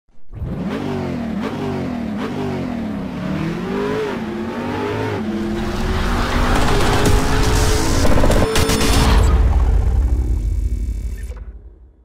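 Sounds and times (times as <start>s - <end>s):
car engine revving: 0.3s - 11.0s.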